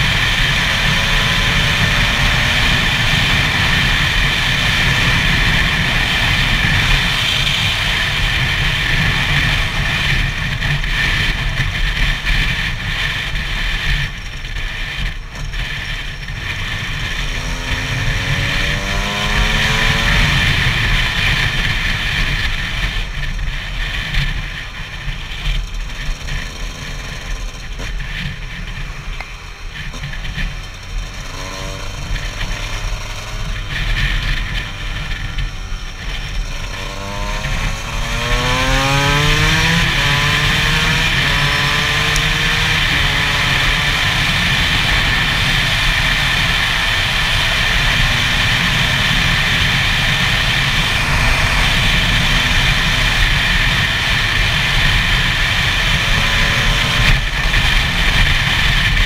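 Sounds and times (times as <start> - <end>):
motorcycle engine revving high: 0.0 - 59.0
wind rushing over microphone: 0.0 - 59.0.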